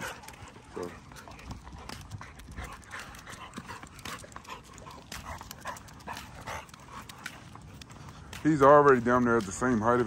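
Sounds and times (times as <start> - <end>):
dogs panting: 0.0 - 10.0
paw steps on concrete: 0.0 - 10.0.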